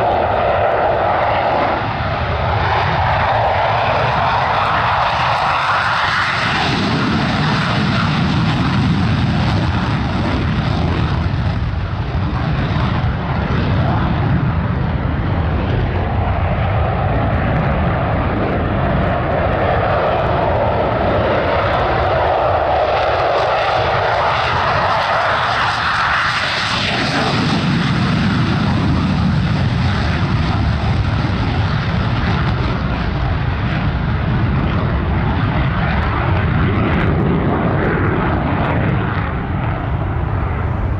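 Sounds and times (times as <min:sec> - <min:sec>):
airplane engines: 0:00.0 - 0:40.9.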